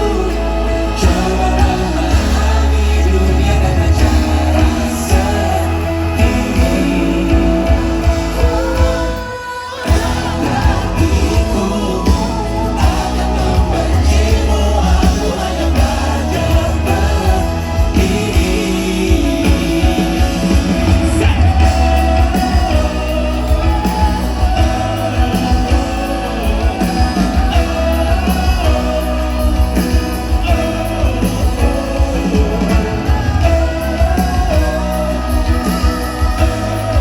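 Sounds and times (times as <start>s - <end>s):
bass guitar: 0.0s - 37.0s
drums: 0.0s - 37.0s
electric guitar: 0.0s - 37.0s
person singing: 0.0s - 37.0s.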